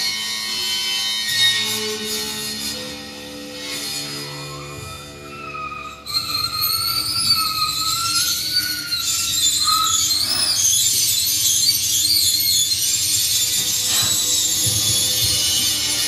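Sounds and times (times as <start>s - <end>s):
shrill screeching noise music: 0.0s - 16.0s.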